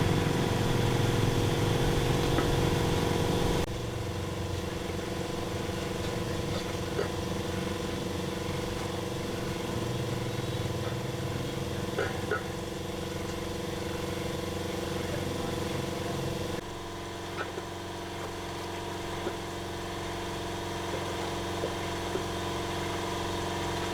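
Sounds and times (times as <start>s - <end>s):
motor humming steadily: 0.0s - 23.9s.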